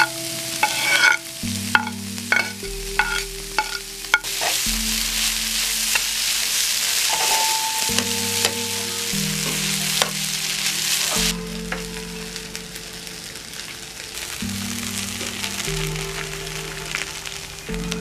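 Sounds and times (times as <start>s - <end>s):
food sizzling in a frying pan: 0.0s - 18.0s
soft background music: 0.0s - 18.0s.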